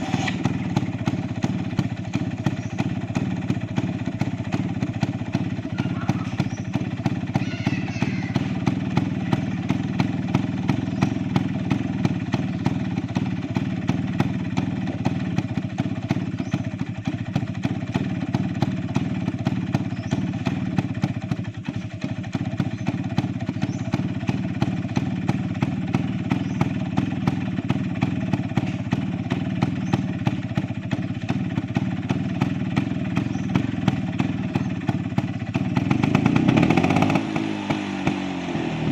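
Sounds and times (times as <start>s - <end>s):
two-stroke scooter engine running: 0.0s - 38.9s.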